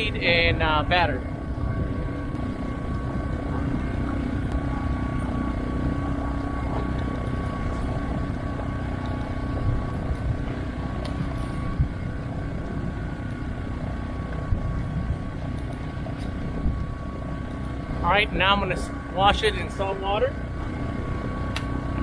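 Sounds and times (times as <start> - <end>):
portable generator running: 0.0 - 22.0.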